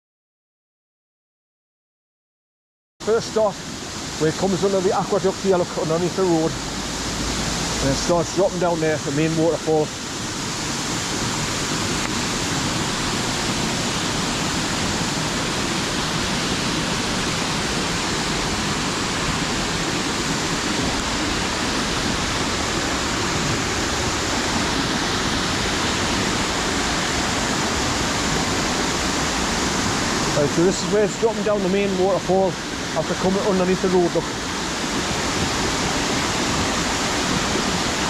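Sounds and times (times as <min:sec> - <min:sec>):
waterfall roaring: 0:03.0 - 0:38.0.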